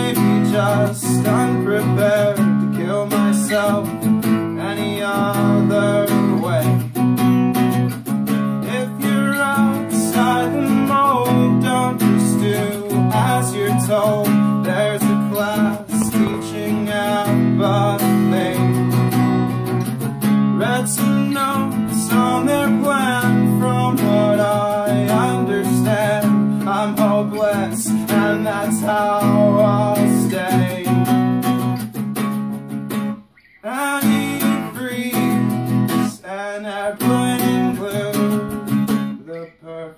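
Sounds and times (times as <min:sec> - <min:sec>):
man singing: 0:00.0 - 0:07.0, 0:08.3 - 0:31.6, 0:33.6 - 0:39.9
acoustic guitar strumming: 0:00.0 - 0:39.9.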